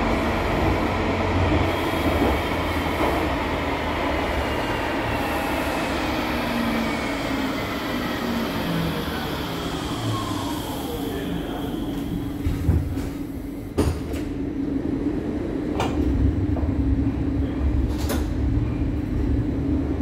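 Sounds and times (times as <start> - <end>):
light-rail car rumble: 0.0 - 20.0.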